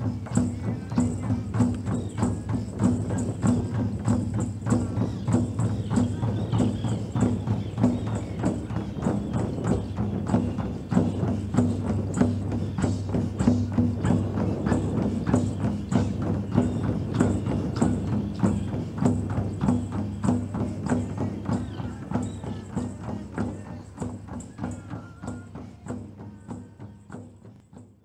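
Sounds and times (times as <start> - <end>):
frame drums beating: 0.0 - 28.0.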